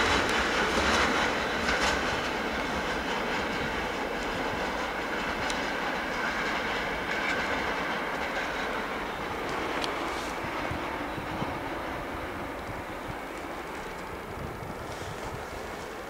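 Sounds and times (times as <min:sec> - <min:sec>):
rail clicks: 0:00.0 - 0:16.0
train wheels rumbling on rails: 0:00.0 - 0:16.0.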